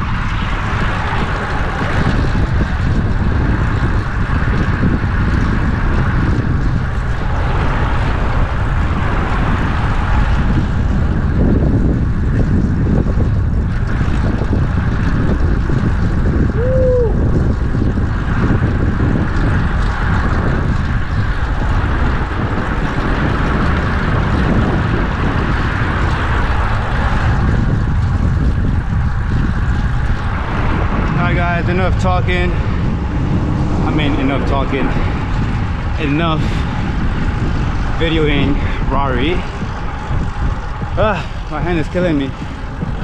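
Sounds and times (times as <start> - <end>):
traffic noise: 0.0 - 43.0
wind buffeting microphone: 0.0 - 43.0.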